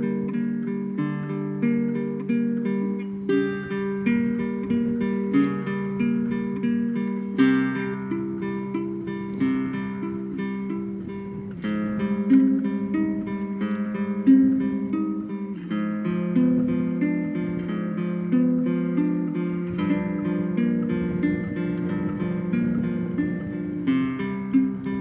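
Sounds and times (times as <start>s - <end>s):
acoustic guitar picking arpeggios: 0.0s - 25.0s.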